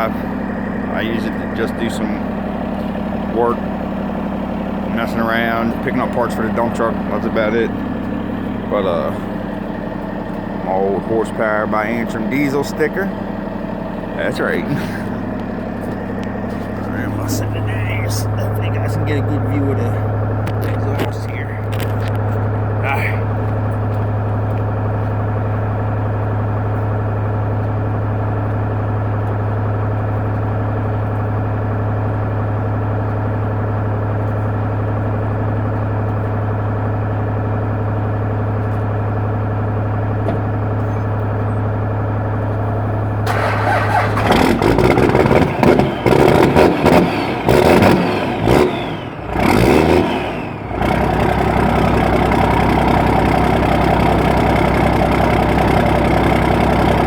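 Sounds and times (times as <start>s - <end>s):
diesel engine cranking and idling: 0.0s - 57.0s.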